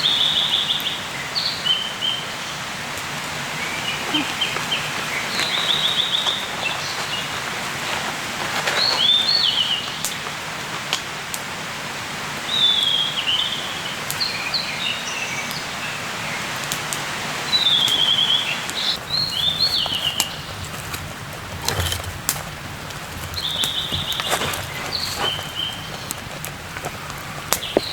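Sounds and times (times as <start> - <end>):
songbirds chirping: 0.0 - 10.4, 12.3 - 27.9.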